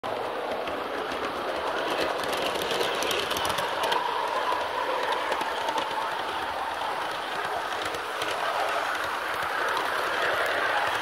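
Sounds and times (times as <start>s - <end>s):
clicking over rail joints: 0.0s - 11.0s
model train wheels rattling on rails: 0.1s - 11.0s.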